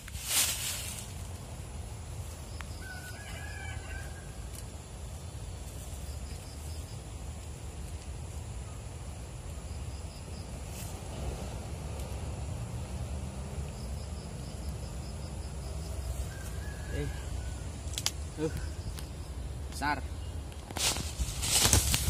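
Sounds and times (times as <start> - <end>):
insect chirps: 0.0 - 22.0.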